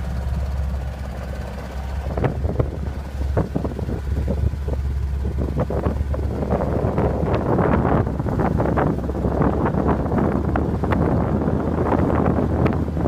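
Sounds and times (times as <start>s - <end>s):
motorboat engine running: 0.0s - 13.0s
water splashing: 0.0s - 13.0s
wind bursts: 0.0s - 13.0s.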